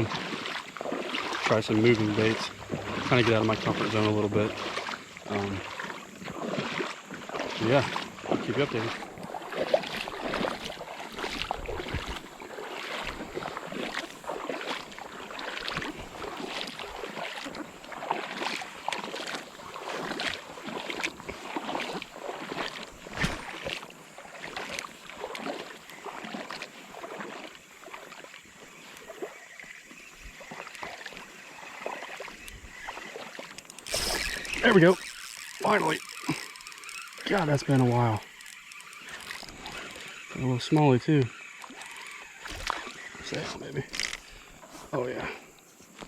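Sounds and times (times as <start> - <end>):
creek water splashing: 0.0 - 46.0
moving water wash: 0.0 - 46.0.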